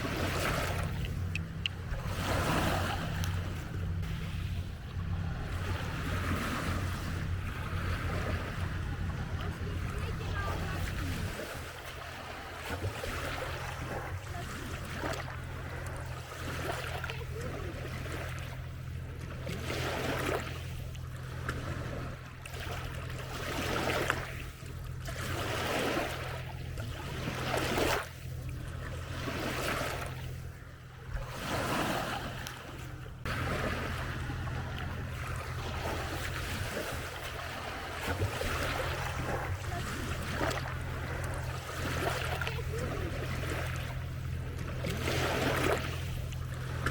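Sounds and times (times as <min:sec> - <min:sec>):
steady low hum: 0:00.0 - 0:46.9
waves lapping on shore: 0:00.0 - 0:46.9.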